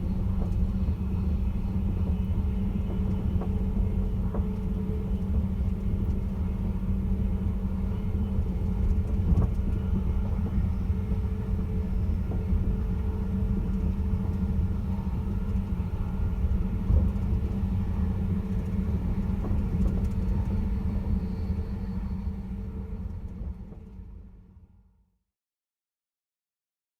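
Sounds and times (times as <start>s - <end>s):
train rumbling: 0.0s - 24.4s.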